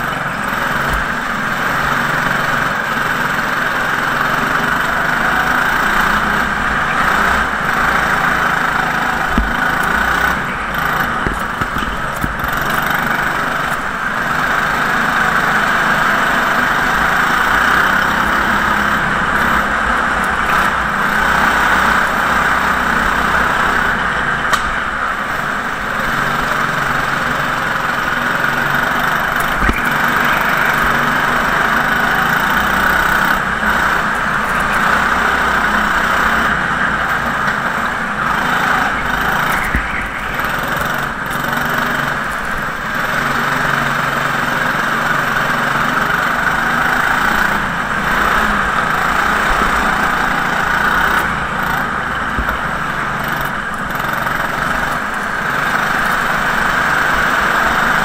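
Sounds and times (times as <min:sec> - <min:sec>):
go-kart engine running: 0:00.0 - 0:58.0.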